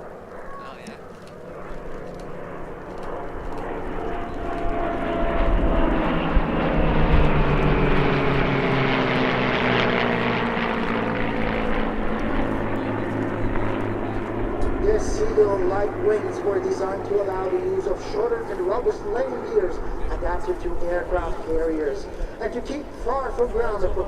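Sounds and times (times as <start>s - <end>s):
piston-engine aircraft flying past: 0.0s - 24.0s.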